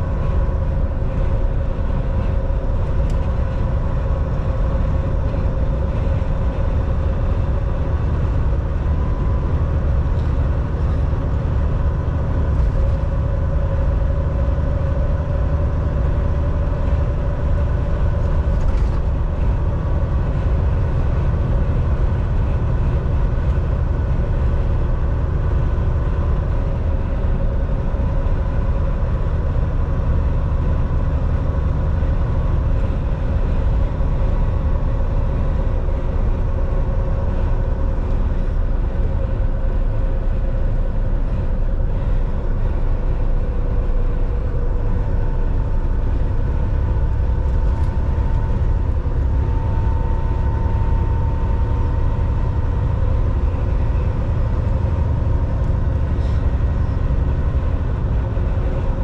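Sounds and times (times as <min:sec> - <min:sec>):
road and wind noise: 0:00.0 - 0:59.0
truck engine drone: 0:00.0 - 0:59.0.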